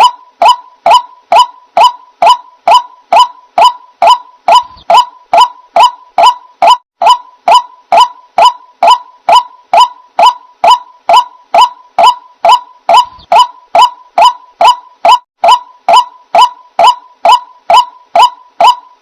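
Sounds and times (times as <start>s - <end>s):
waterhen calling harsh notes: 0.0s - 19.0s.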